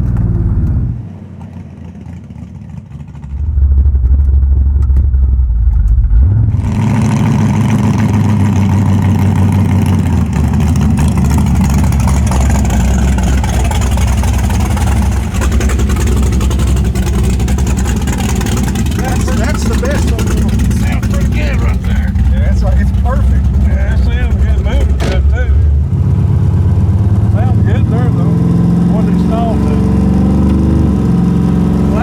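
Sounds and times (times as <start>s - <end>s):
car engine accelerating hard: 0.0s - 32.0s
road noise: 0.0s - 32.0s.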